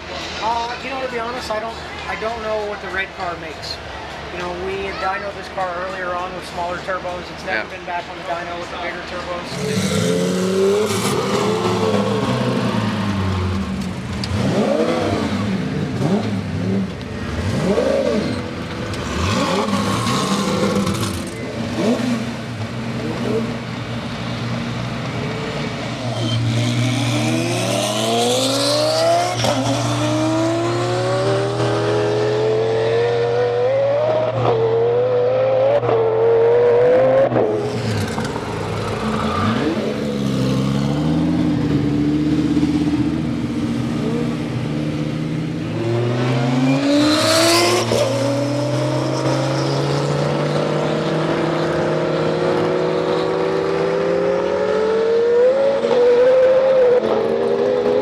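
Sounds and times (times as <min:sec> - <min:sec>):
sports car engine revving: 0:09.4 - 0:58.0.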